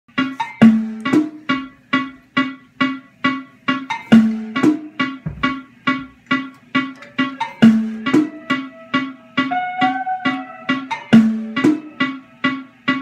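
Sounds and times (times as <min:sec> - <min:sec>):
instrument playing repeating riff: 0:00.1 - 0:13.0.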